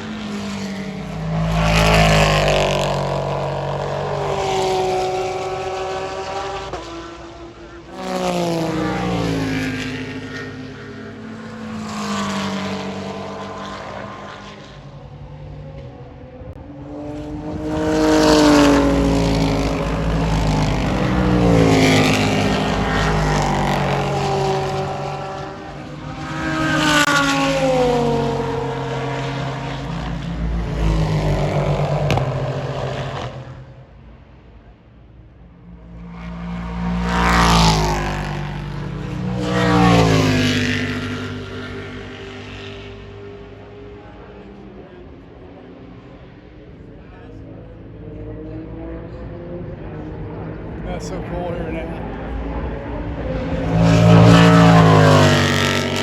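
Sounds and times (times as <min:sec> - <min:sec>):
race cars passing at speed: 0:00.0 - 0:56.0.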